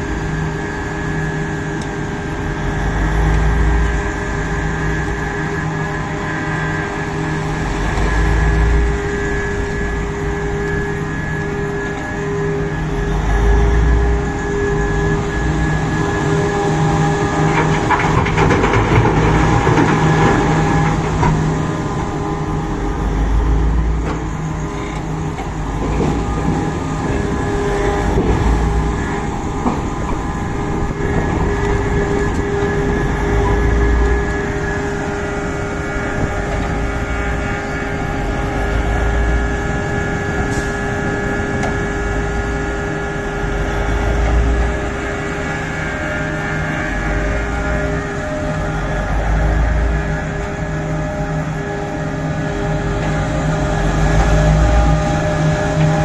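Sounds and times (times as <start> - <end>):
excavator engine and hydraulics droning: 0.0 - 56.0.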